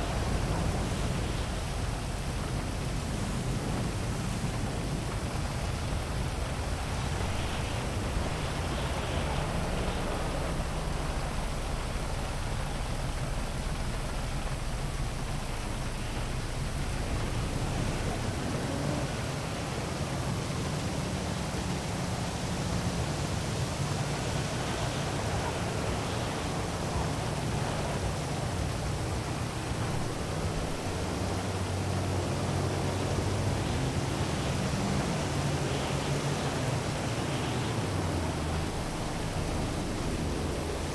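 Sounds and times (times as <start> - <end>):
heavy rain falling: 0.0 - 40.9
low rumble of traffic: 0.0 - 40.9.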